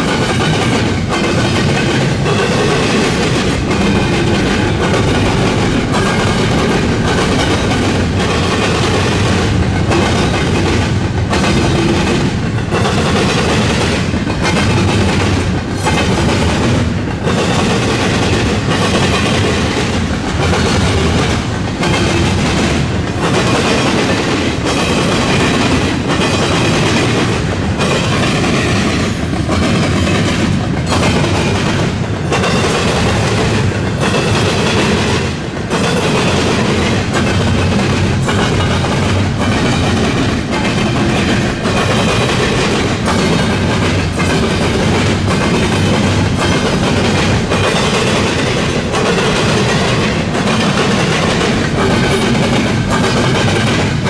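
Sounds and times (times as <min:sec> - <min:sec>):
freight train rumbling: 0:00.0 - 0:54.0
train wheels clattering on track: 0:00.0 - 0:54.0.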